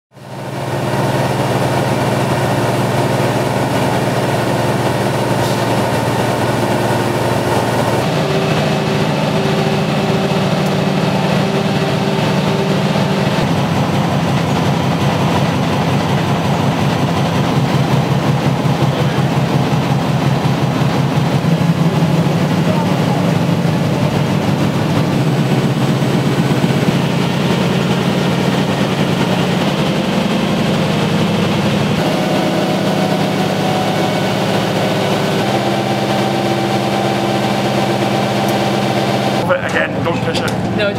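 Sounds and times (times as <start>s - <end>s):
printing press clattering: 0.4s - 40.9s.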